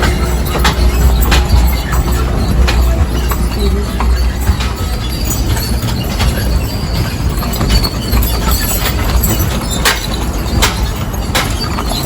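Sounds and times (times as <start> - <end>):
clicks and knocks: 0.0 - 12.0
vehicle rumbling: 0.0 - 12.0.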